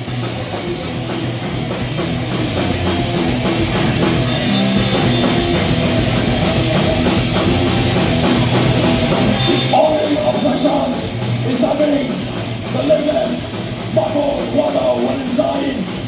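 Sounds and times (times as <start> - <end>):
distorted electric guitar riffing: 0.0 - 16.0
rapid drum kit beats: 0.0 - 16.0.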